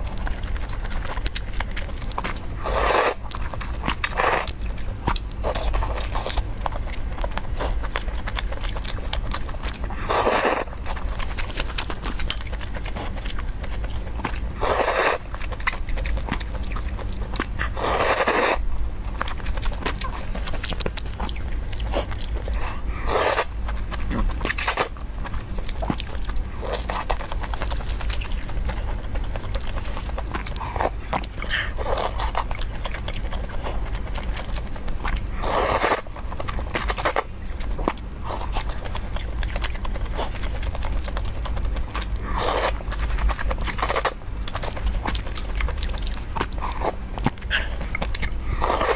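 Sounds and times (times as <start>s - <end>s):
chewing noodles: 0.0s - 48.9s
steady low hum: 0.0s - 48.9s.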